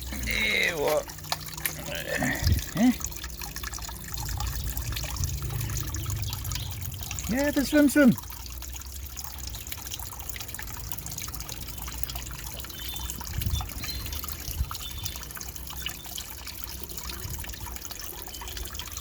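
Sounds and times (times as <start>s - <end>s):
water drips: 0.0s - 19.0s
water trickling and splashing: 0.0s - 19.0s.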